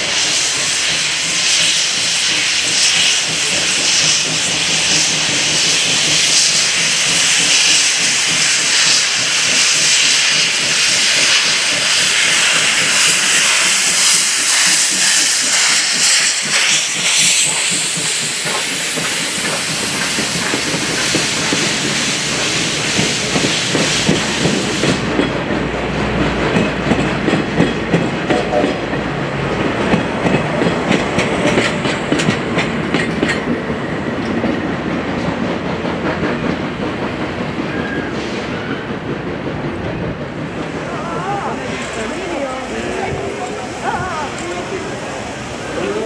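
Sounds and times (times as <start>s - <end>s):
loud steam hiss: 0.0s - 46.0s
train wheels clattering over rail joints: 0.2s - 44.5s.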